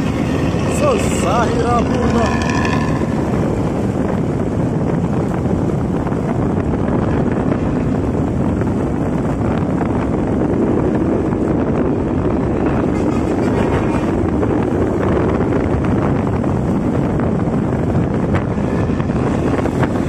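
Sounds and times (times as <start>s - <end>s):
bus diesel engine: 0.0s - 20.0s
loud growling exhaust: 0.0s - 20.0s
wind buffeting microphone: 0.0s - 20.0s.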